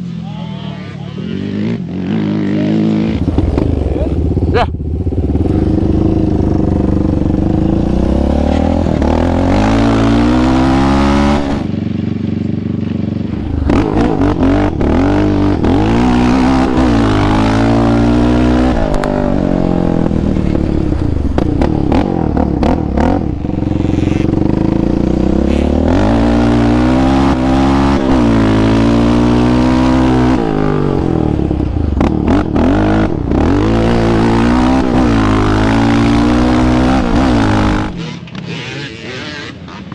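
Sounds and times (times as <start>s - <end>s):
quad engine revving: 0.6s - 11.7s, 13.3s - 39.9s.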